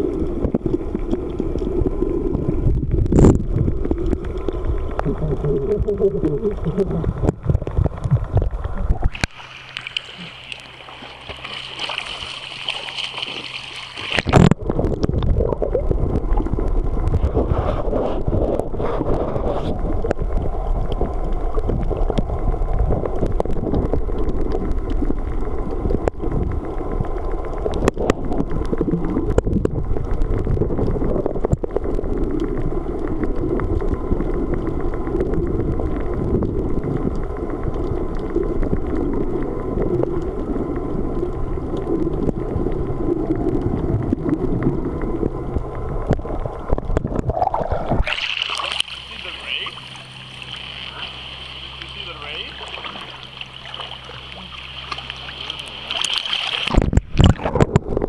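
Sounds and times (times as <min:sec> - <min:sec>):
muffled underwater water rumble: 0:00.0 - 0:58.0.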